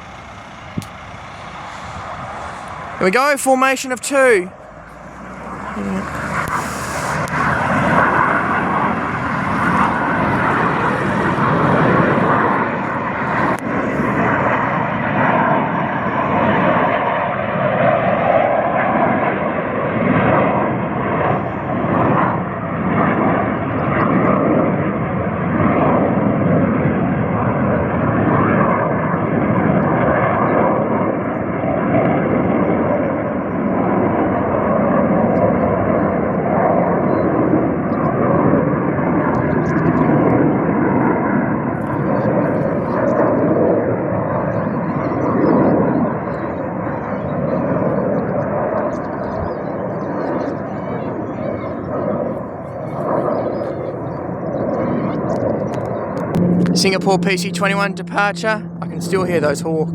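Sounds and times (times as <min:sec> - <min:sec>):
jet engines taking off: 0:00.0 - 0:59.9.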